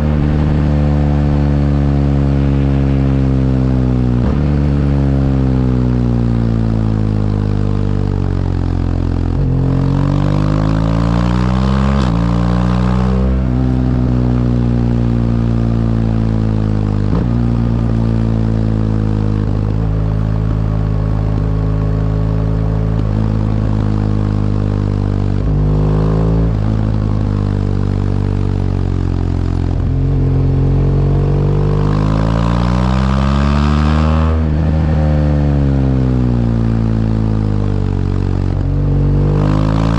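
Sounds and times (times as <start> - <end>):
motorcycle engine changing gears: 0.0 - 39.9.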